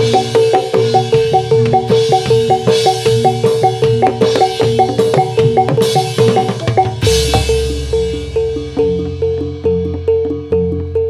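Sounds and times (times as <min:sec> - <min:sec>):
drums: 0:00.0 - 0:11.0.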